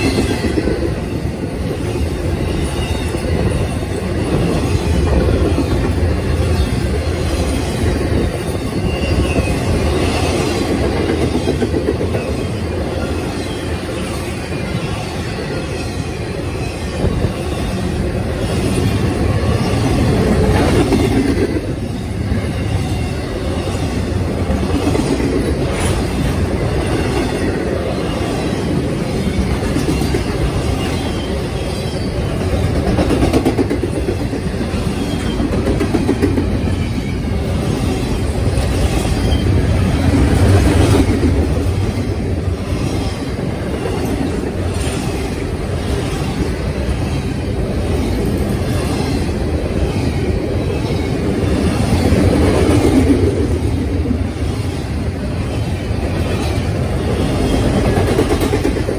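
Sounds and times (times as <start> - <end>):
freight train wheels rumbling: 0.0 - 58.9.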